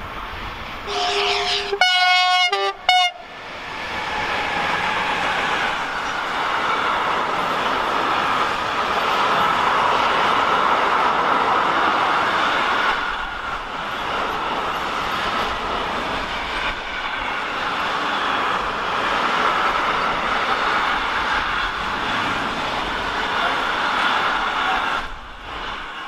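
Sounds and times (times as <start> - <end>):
freight train wheels rushing on rail: 0.0 - 26.0.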